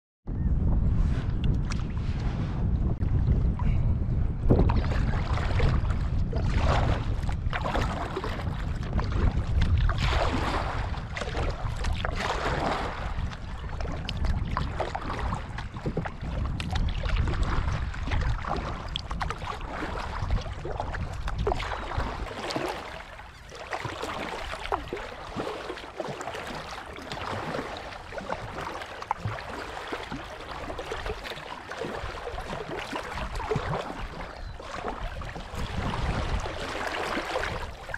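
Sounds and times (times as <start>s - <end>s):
wind rumbling on microphone: 0.2s - 37.9s
water splashing around kayak: 0.9s - 37.9s.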